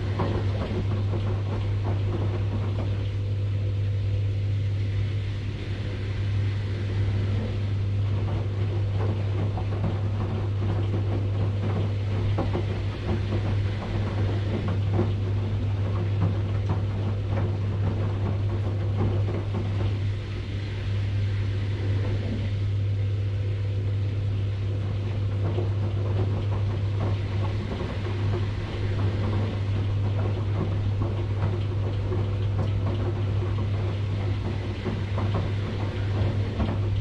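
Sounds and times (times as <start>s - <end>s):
washing machine humming: 0.0s - 37.0s.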